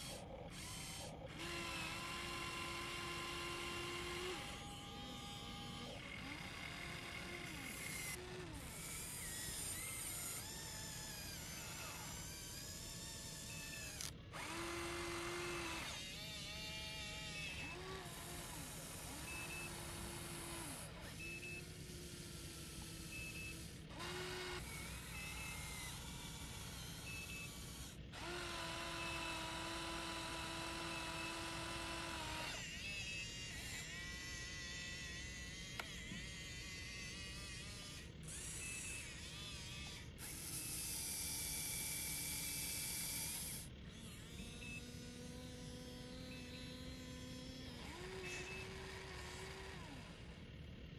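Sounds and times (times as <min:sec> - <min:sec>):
electric motors whining in bursts: 0:00.0 - 0:50.9.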